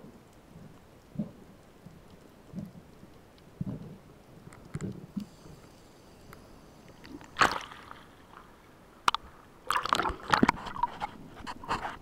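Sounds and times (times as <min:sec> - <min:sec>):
underwater clicks and crackles: 0:00.0 - 0:12.0
water gurgling and sloshing: 0:00.0 - 0:12.0.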